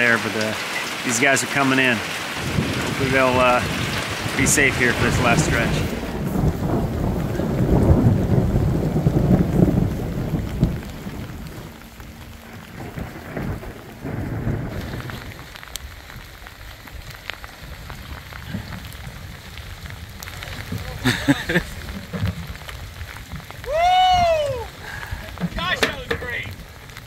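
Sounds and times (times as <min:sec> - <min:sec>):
rain falling: 0:00.0 - 0:27.0
thunder rumble: 0:00.0 - 0:27.0.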